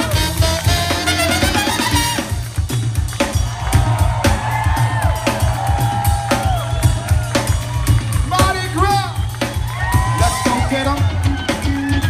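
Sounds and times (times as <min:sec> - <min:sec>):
bass line: 0:00.0 - 0:12.0
live funk band playing: 0:00.0 - 0:12.0.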